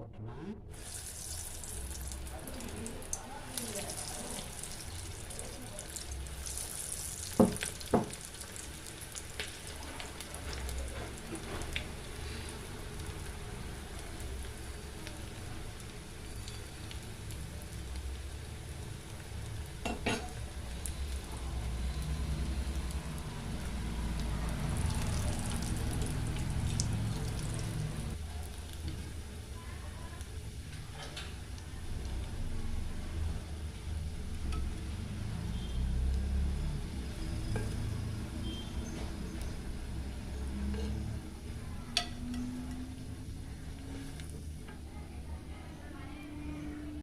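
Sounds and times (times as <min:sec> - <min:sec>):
deep-frying sizzle: 0:00.7 - 0:47.0.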